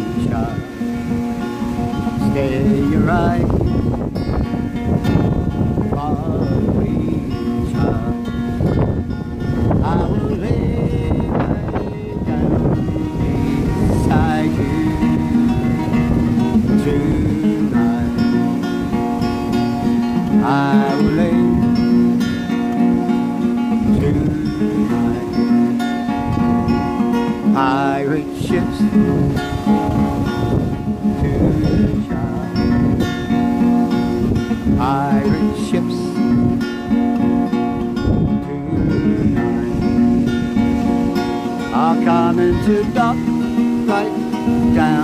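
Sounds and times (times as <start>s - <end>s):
acoustic guitar picked and strummed: 0.0s - 45.0s.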